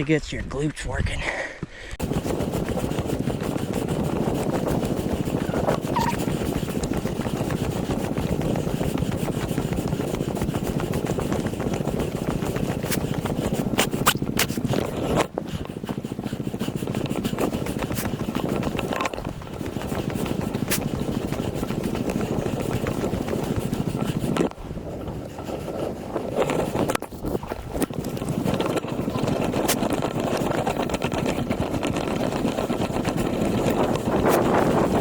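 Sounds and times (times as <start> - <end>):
wind buffeting microphone: 2.0 - 35.0
clicks and scrapes: 4.5 - 35.0.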